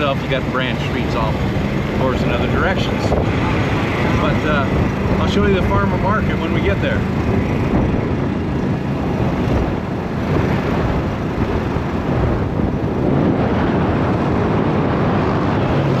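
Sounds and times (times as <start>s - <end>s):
golf cart rumbling: 0.0s - 16.0s
wind on microphone: 0.0s - 16.0s.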